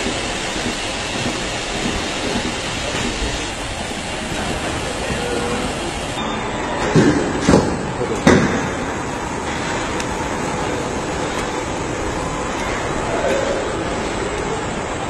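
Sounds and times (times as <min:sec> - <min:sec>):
machinery and conveyors humming: 0:00.0 - 0:15.0.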